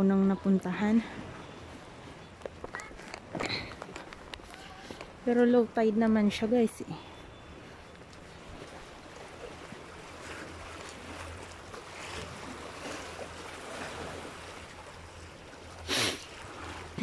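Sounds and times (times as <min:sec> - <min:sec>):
surf against rocks: 0:00.0 - 0:17.0.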